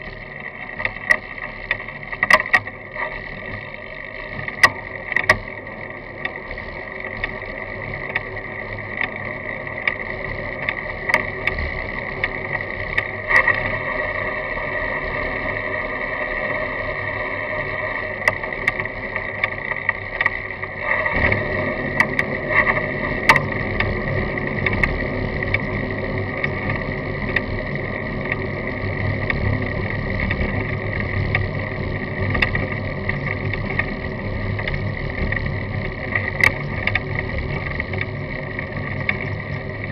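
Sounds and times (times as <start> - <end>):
bike rattling over bumps: 0.0 - 39.9
steady high hum: 0.0 - 39.9
tyres rolling on asphalt: 0.0 - 39.9.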